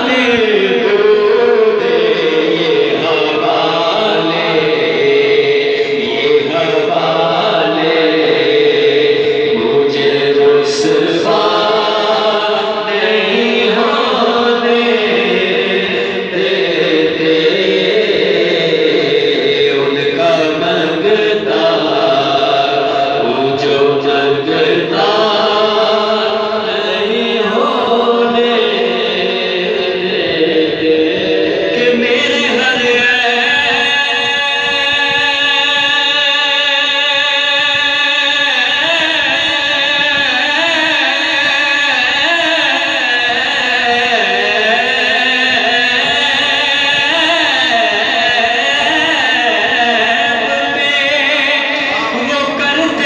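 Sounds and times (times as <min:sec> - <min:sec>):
man singing devotional song: 0:00.0 - 0:53.0.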